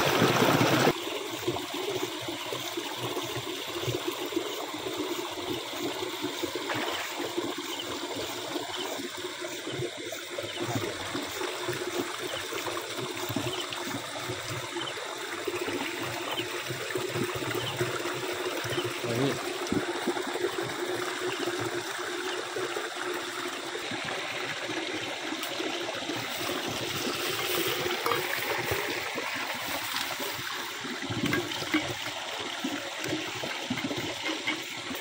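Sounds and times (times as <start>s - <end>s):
shallow water trickling: 0.0s - 35.0s.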